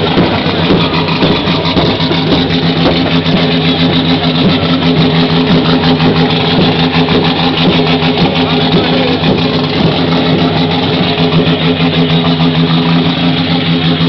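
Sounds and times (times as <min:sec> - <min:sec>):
race car engine idling: 0:00.0 - 0:14.0.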